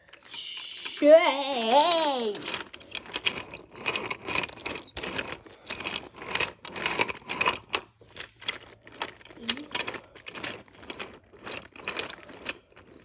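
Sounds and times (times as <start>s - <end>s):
toy train cars clicking on track: 0.0s - 13.0s.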